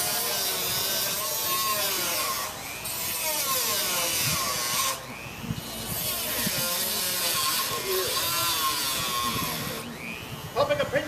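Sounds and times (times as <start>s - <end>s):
power tool grinding whine: 0.0s - 11.0s.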